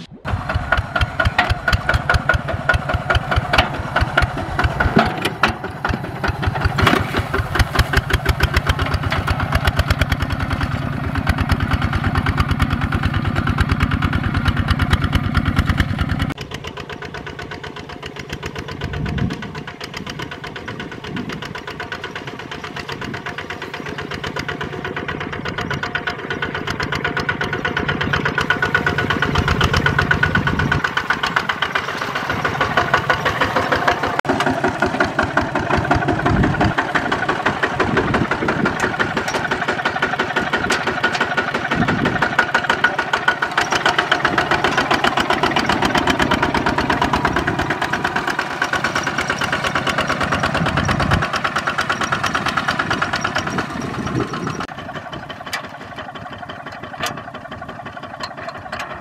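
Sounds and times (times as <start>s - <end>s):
diesel tractor engine chugging: 0.2s - 59.0s.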